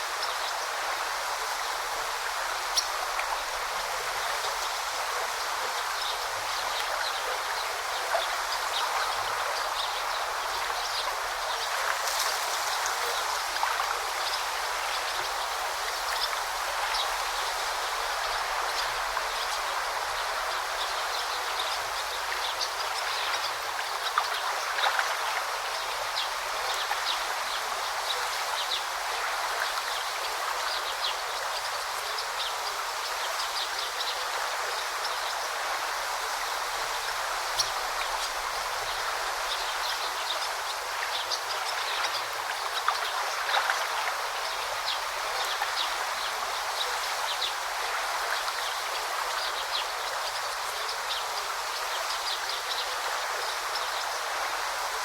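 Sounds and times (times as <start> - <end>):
stream babbling: 0.0 - 55.0.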